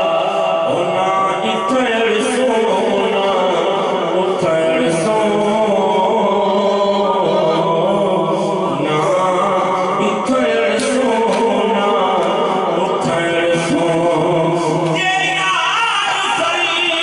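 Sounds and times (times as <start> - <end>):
men chanting devotional song: 0.0 - 17.0.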